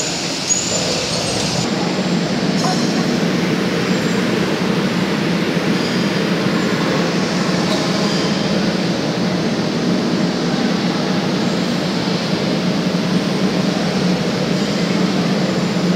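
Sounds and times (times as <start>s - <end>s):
mechanical rumble with low hum: 0.0s - 15.9s.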